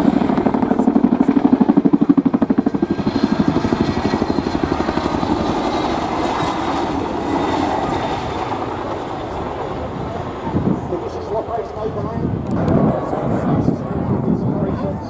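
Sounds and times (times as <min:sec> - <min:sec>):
helicopter rotors beating: 0:00.0 - 0:15.0.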